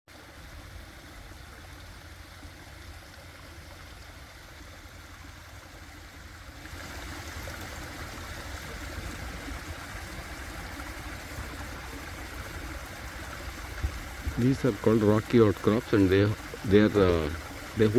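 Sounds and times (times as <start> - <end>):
stream water rushing: 0.1 - 17.9.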